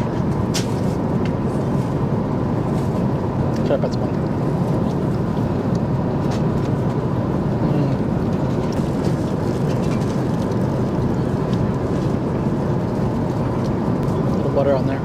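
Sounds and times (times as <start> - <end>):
airliner cabin rush: 0.0 - 15.0.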